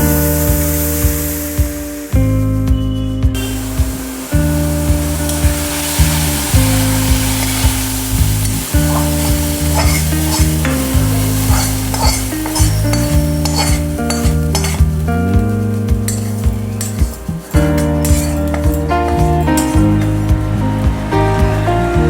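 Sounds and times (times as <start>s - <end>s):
food sizzling in a pan: 0.0s - 1.7s, 3.4s - 21.1s
background music with steady beat: 0.0s - 22.0s.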